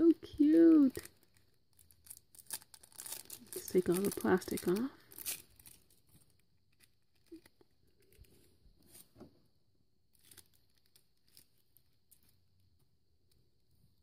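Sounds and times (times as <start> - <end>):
plastic wrapping crinkling: 0.1 - 9.2, 10.0 - 12.8.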